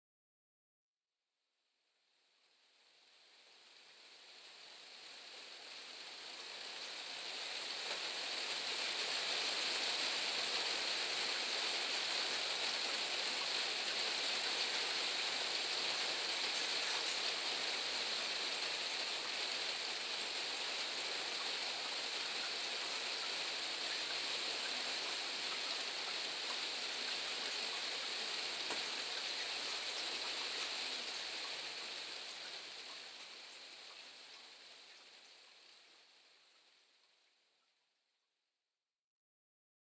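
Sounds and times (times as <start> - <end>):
rain hiss: 2.0 - 37.4.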